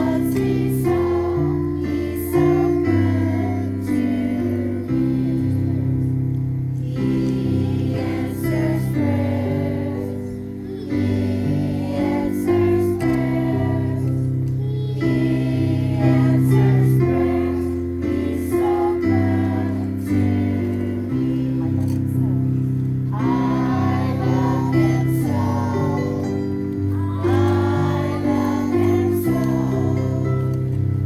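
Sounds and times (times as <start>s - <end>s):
held instrumental chords: 0.0s - 31.0s
hymn singing: 0.0s - 31.0s.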